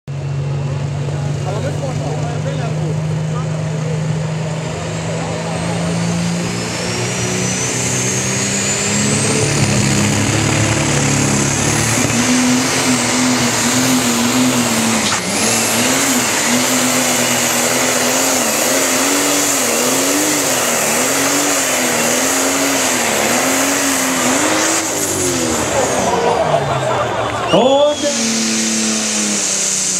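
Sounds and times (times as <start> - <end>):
diesel tractor engine at full throttle: 0.0 - 29.9
high turbo whine: 0.1 - 29.9.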